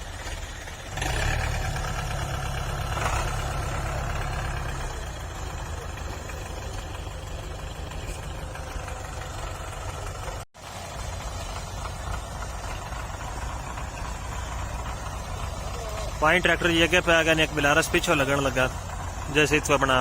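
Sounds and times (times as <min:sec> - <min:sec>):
diesel tractor engines under load: 0:00.0 - 0:20.0.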